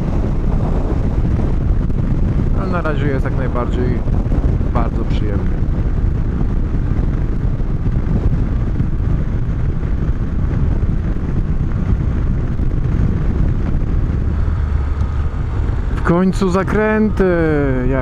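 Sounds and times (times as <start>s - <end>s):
motorcycle engine rumble: 0.0s - 18.0s
wind rushing over microphone: 0.0s - 18.0s.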